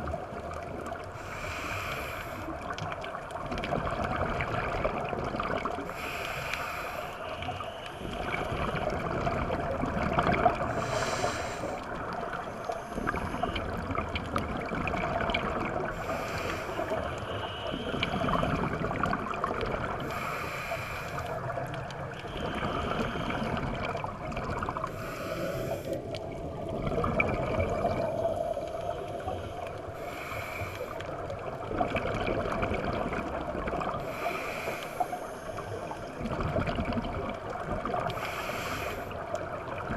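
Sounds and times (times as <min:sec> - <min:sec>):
regulator bubbles gurgling: 0:00.0 - 0:39.9
steady underwater noise: 0:00.0 - 0:39.9.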